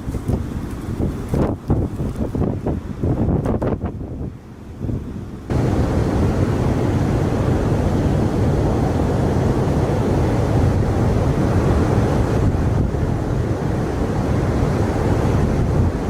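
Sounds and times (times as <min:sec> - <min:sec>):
strong wind buffeting microphone: 0:00.0 - 0:16.0
surf: 0:00.0 - 0:16.0.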